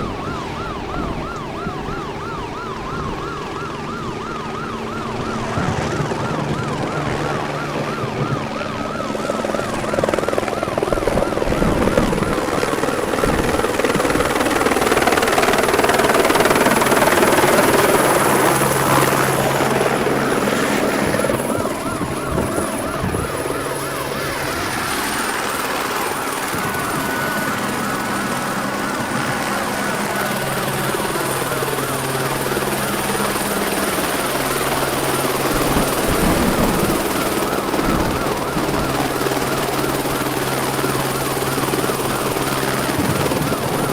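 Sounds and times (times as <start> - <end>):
faint wailing siren: 0.0 - 43.9
helicopter rotor chopping: 0.0 - 43.9.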